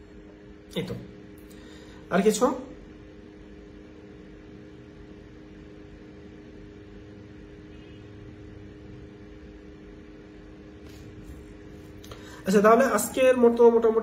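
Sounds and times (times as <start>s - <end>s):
air conditioner whirring: 0.0s - 14.0s.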